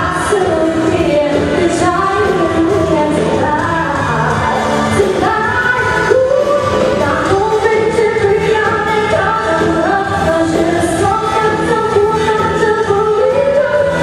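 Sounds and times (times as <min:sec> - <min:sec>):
live band playing pop: 0:00.0 - 0:14.0
person singing: 0:00.0 - 0:14.0.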